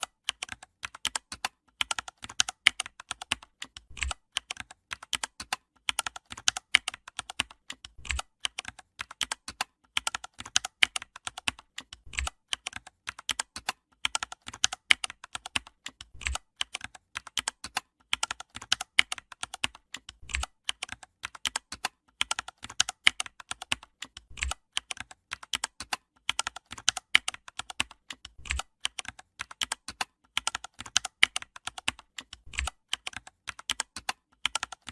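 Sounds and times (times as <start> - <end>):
rapid keyboard typing: 0.0 - 34.9.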